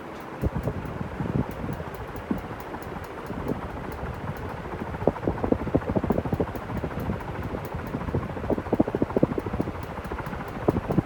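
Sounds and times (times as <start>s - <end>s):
uneven clicking rattle: 0.0s - 4.6s, 6.0s - 11.0s
ceiling fan whooshing: 0.0s - 11.0s.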